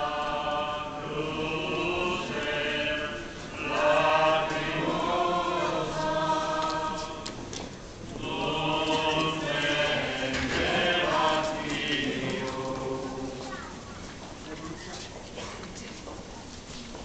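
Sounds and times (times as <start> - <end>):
procession singing a slow hymn: 0.0 - 13.9.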